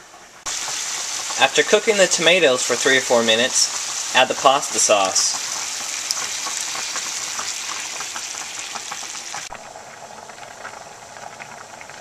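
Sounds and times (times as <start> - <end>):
pot of water boiling: 0.0 - 12.0
meat sizzling in a frying pan: 0.5 - 12.0.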